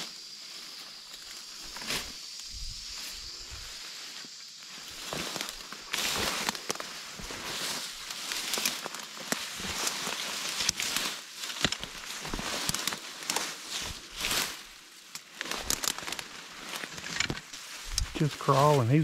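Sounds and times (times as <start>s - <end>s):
dry stems crackling underfoot: 0.0s - 19.0s
footsteps through dry grass: 0.0s - 19.0s
leaves rustling: 0.0s - 19.0s.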